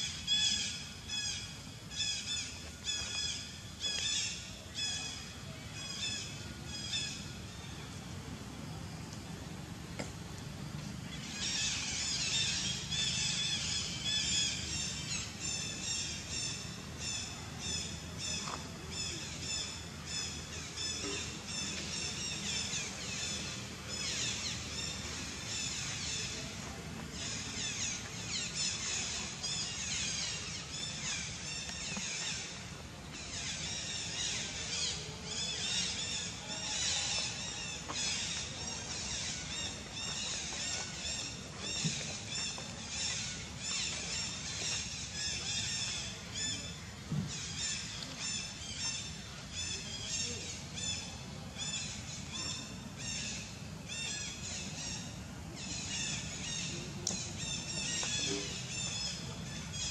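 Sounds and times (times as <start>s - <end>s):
birds chirping: 10.8s - 59.9s.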